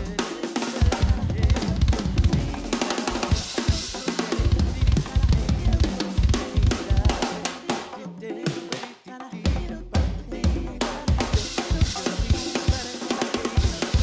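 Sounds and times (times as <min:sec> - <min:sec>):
drum kit groove: 0:00.0 - 0:14.0.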